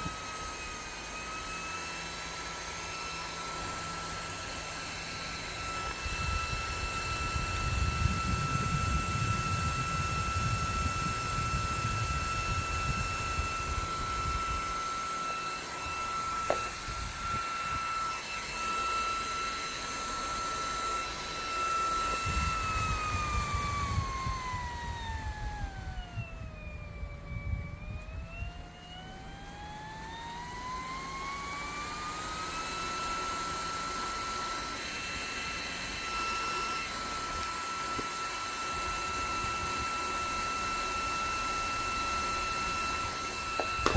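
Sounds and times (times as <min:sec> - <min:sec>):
electric fan motor whine: 0:00.0 - 0:43.9.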